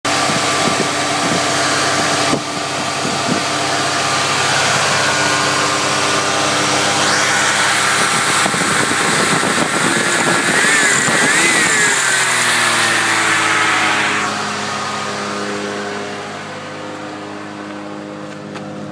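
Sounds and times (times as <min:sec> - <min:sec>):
car engine revving: 0:00.1 - 0:18.5.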